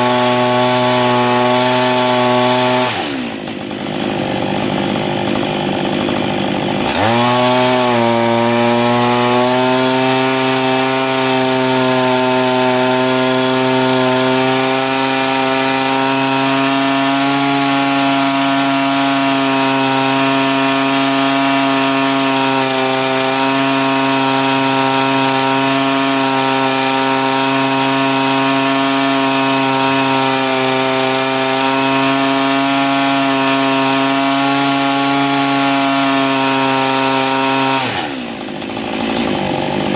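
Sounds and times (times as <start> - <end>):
chainsaw engine running under load: 0.0 - 39.9.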